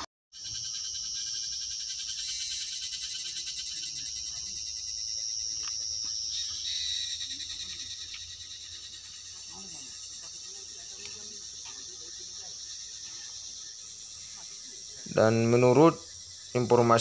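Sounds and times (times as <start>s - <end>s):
insect chorus trilling: 0.4s - 17.0s
lower insect trill: 0.4s - 17.0s.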